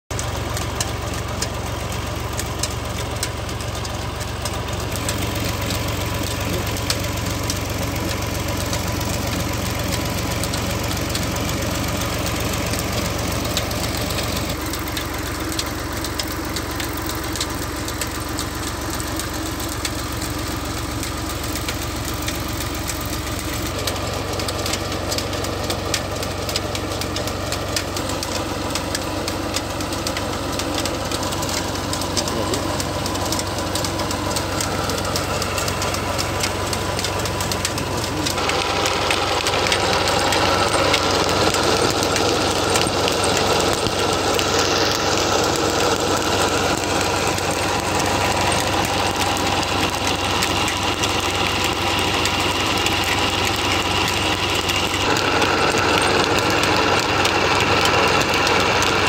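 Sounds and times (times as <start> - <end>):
diesel tractor engine running: 0.0 - 59.0
fast light ticks: 0.1 - 59.0.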